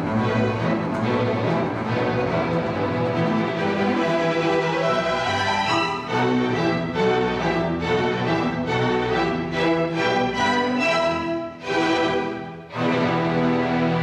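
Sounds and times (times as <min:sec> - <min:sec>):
string orchestra playing: 0:00.0 - 0:14.0.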